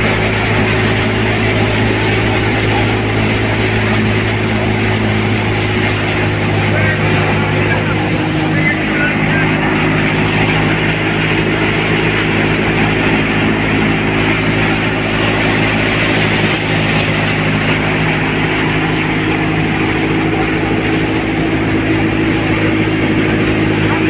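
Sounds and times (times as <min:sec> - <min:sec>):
engine humming: 0:00.0 - 0:24.0
thresher machine rushing: 0:00.0 - 0:24.0.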